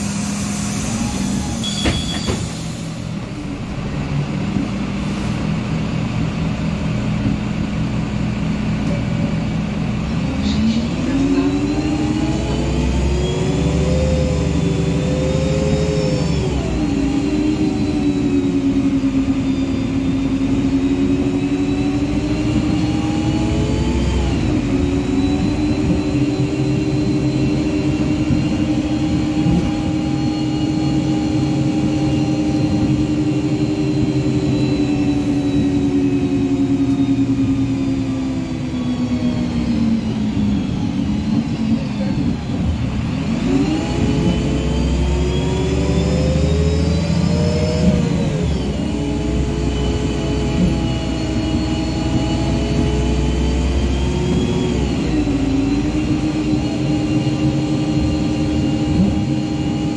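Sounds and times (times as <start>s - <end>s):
bus engine whine: 0.0s - 59.9s.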